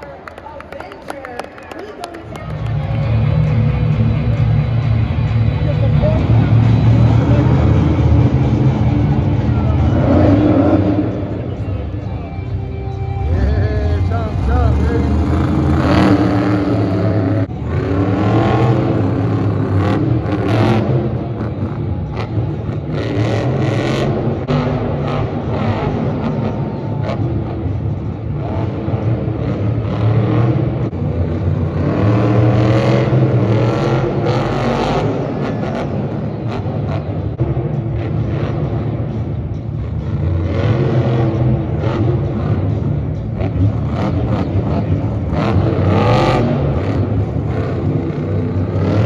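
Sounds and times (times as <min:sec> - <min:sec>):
monster truck engines revving: 0:00.0 - 0:49.0.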